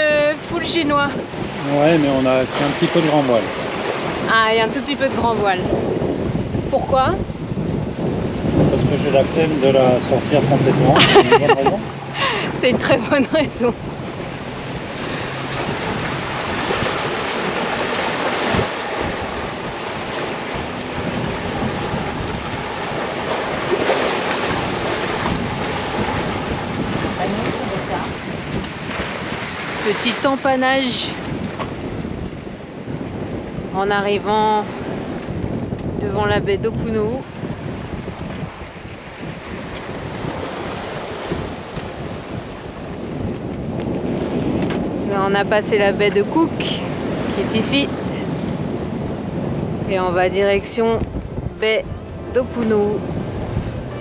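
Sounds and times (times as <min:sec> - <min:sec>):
water rushing along hull: 0:00.0 - 0:54.0
wind buffeting microphone: 0:00.0 - 0:54.0.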